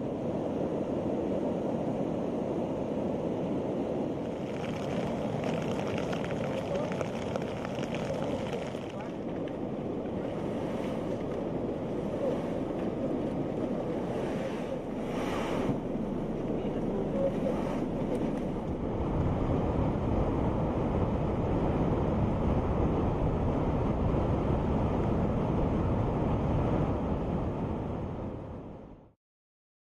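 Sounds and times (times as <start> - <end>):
waves breaking on shore: 0.0 - 28.4
wind buffeting microphone: 0.0 - 29.0.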